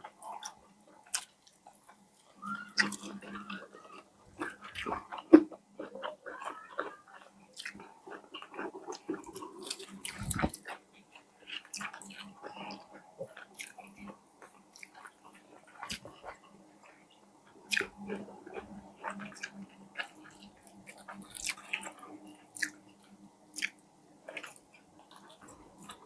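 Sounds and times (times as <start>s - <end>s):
fried chicken being chewed: 0.0s - 26.0s.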